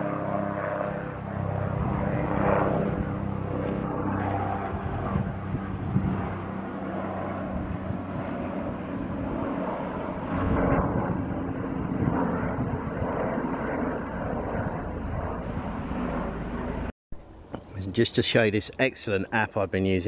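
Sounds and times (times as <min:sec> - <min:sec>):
distant helicopter drone: 0:00.0 - 0:20.0.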